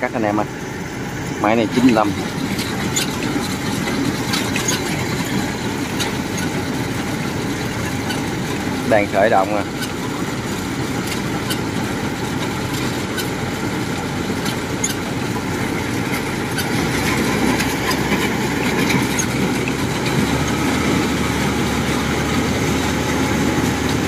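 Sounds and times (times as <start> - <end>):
combine harvester diesel engine: 0.0 - 24.0.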